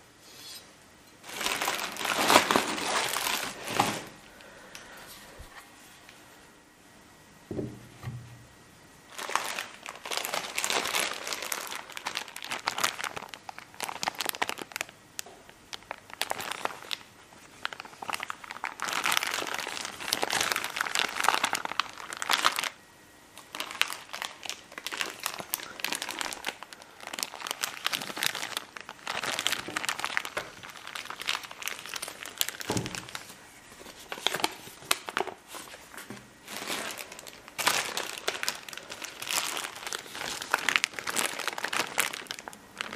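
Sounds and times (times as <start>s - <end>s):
bubble wrap crinkling: 1.2s - 4.6s, 9.1s - 22.8s, 23.4s - 42.9s.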